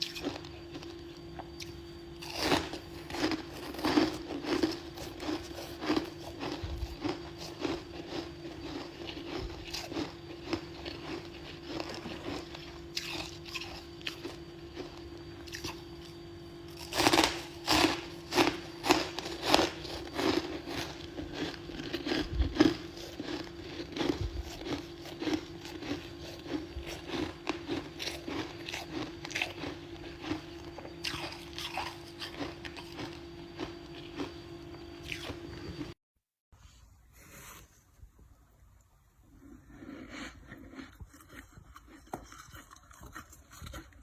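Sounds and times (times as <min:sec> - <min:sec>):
low hum: 0:00.0 - 0:36.0
person chewing crunchy frost: 0:00.0 - 0:36.0, 0:39.2 - 0:44.0.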